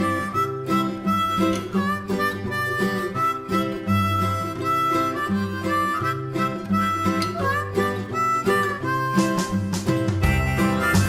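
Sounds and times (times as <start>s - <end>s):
harmonica melody: 0.0s - 11.0s
plucked acoustic guitar: 0.0s - 11.0s.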